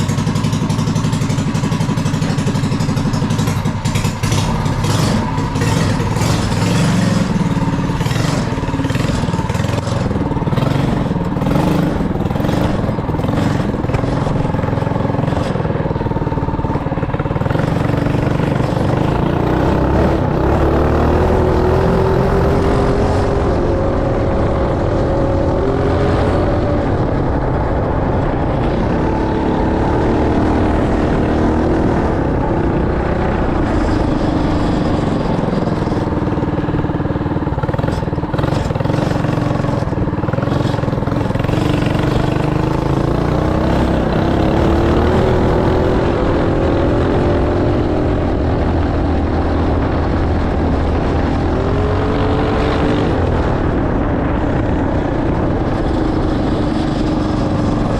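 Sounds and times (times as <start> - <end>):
go-kart engine revving: 0.0 - 57.9.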